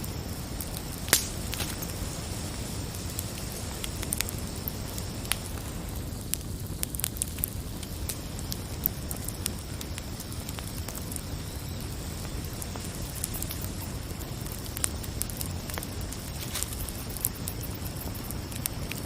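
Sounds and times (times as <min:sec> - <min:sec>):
crickets chirring: 0:00.0 - 0:19.0
wood fire crackling and popping: 0:00.0 - 0:19.0.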